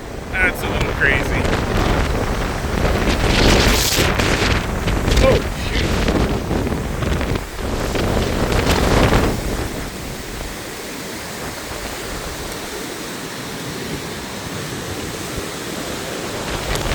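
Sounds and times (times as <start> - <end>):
storm wind gusting on microphone: 0.0 - 16.9.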